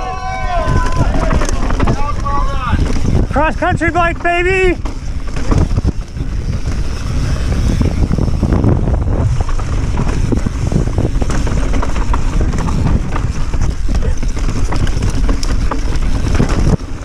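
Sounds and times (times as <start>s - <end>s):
bike knocking and rattling: 0.0s - 17.0s
bike tyres rolling over dirt: 0.0s - 17.0s
wind rushing over microphone: 0.0s - 17.0s.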